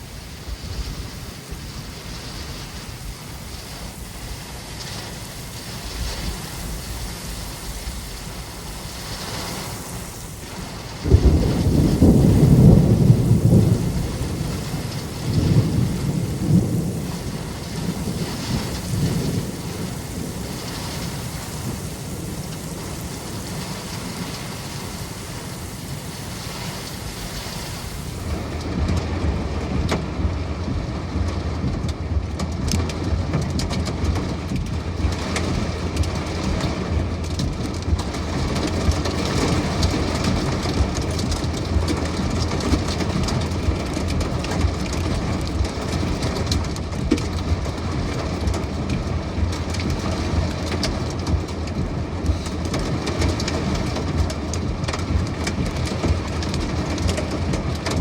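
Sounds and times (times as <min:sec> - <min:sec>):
heavy rain beating on a vehicle: 0:00.0 - 0:58.0
steady low rumble: 0:00.0 - 0:58.0.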